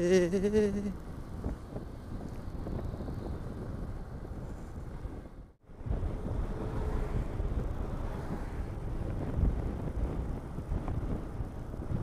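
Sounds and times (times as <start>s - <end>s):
motorcycle riding rumble: 0.0s - 12.0s
wind buffeting microphone: 0.2s - 12.0s.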